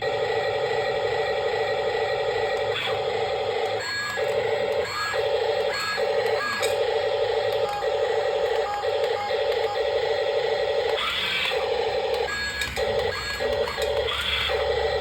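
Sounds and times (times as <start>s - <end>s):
toy electric motors whirring: 1.2s - 15.0s.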